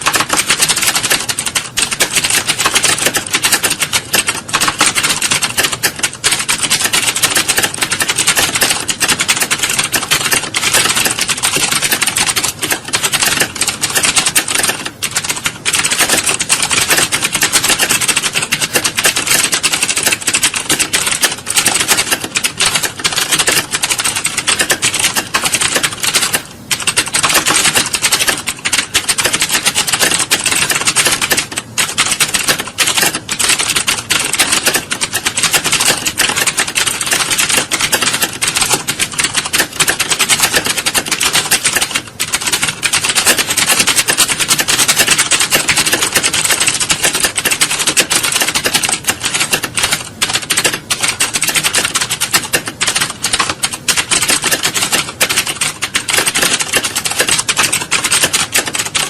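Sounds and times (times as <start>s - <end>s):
rapid typing on keyboards: 0.0s - 59.0s.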